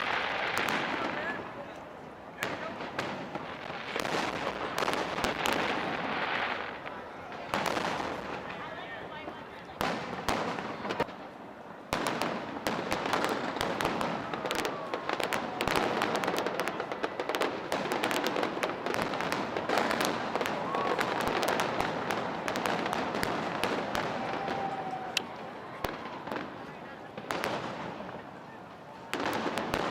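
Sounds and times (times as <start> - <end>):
fireworks banging and crackling: 0.0 - 29.9.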